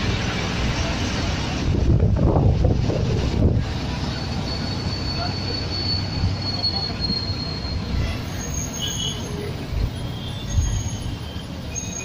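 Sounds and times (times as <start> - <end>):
bus engine and road rumble: 0.0 - 12.0
passing traffic: 0.0 - 12.0.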